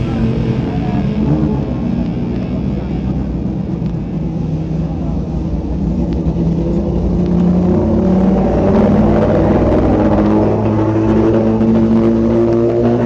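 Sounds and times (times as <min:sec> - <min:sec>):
racing car engine: 0:00.0 - 0:13.0.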